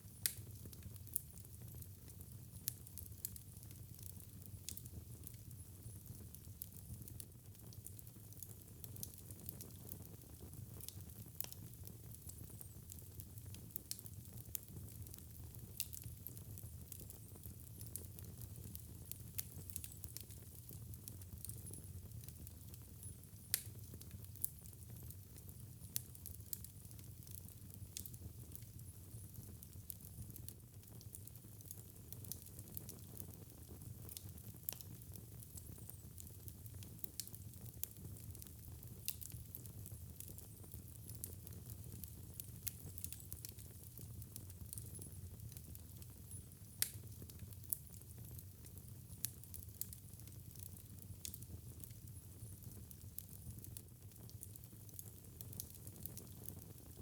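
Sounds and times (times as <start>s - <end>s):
low rumble and hiss of fire: 0.0s - 57.0s
wood fire crackling and popping: 0.1s - 57.0s.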